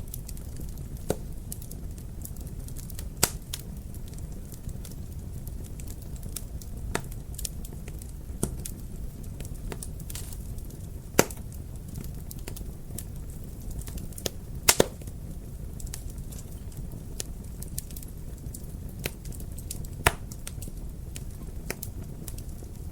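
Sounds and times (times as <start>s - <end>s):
fire crackles and pops: 0.0s - 22.9s
wood fire rumbling: 0.0s - 22.9s.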